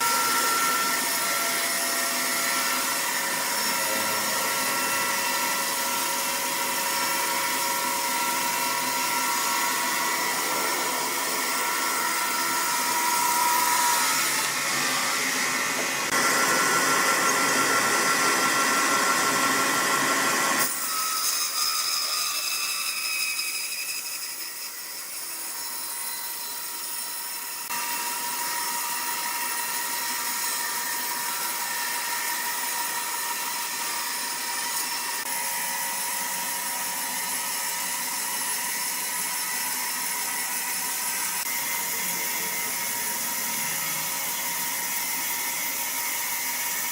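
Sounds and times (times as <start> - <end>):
woodworking machine hissing: 0.0 - 46.9.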